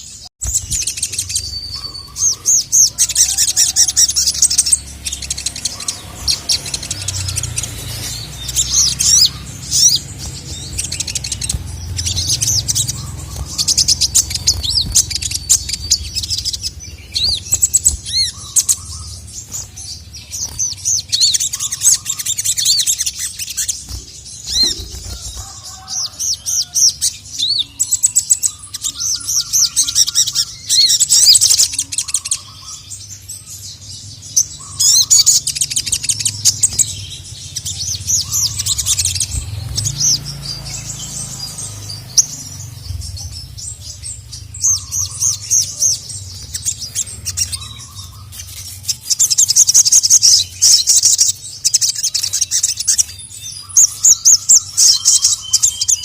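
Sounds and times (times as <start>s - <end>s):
bird chirping and trilling: 0.0s - 56.0s.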